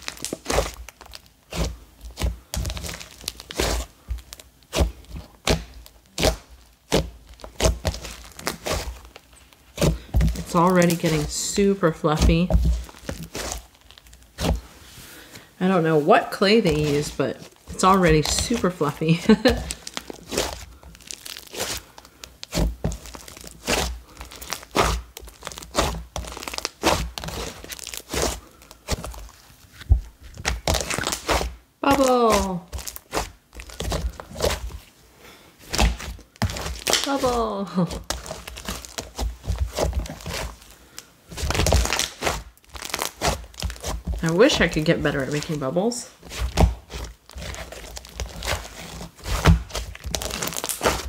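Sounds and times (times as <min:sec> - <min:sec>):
slime squelching and popping: 0:00.0 - 0:14.8, 0:16.2 - 0:34.9, 0:35.6 - 0:51.0.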